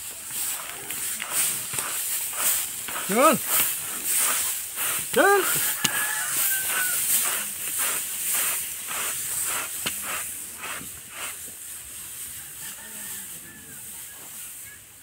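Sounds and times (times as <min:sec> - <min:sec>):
hooves on crackling dry straw: 0:00.0 - 0:15.0.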